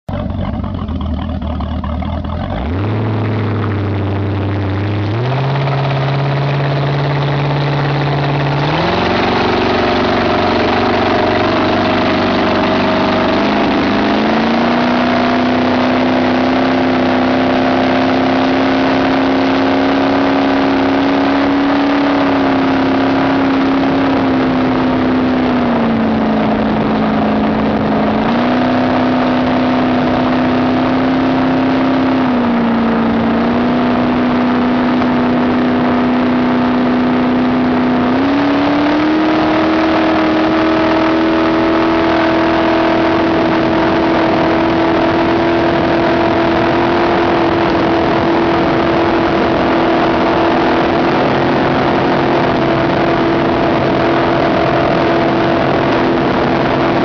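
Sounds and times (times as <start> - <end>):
speedboat engine revving: 0.1 - 57.0
water and wind rushing: 2.7 - 57.0.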